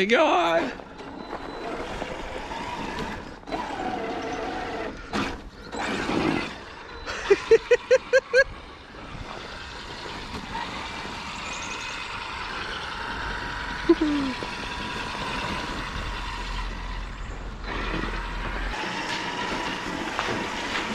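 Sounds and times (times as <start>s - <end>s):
electric motor whining: 0.6s - 20.9s.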